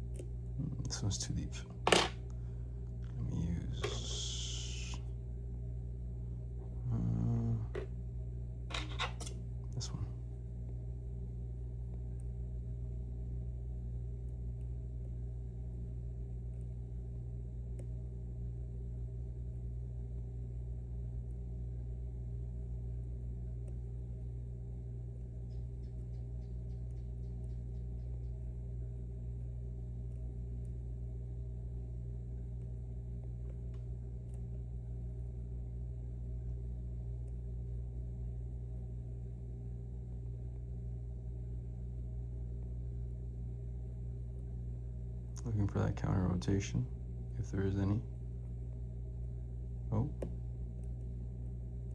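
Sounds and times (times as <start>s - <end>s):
low electrical hum: 0.0s - 51.9s.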